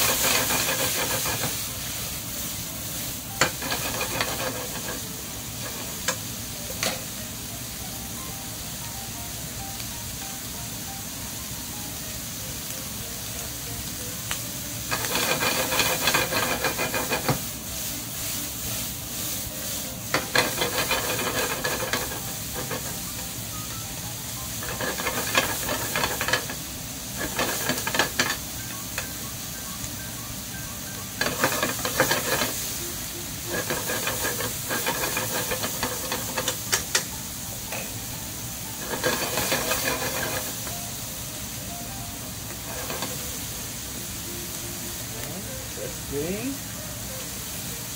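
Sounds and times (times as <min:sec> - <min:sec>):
bacon sizzling in a frying pan: 0:00.0 - 0:47.9.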